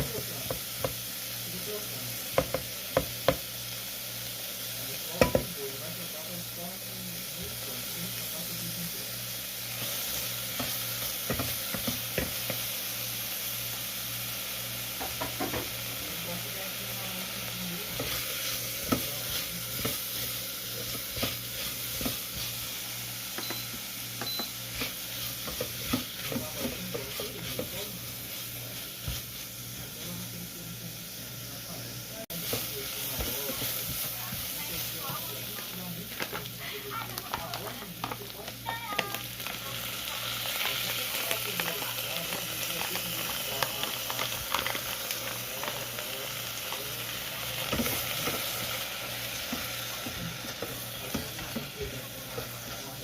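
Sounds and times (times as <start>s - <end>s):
food sizzling in a pan: 0.0s - 53.0s.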